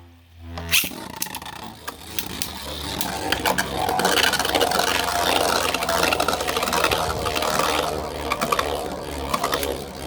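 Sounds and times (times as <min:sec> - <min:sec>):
spinning tops scraping and clacking: 0:00.6 - 0:10.0.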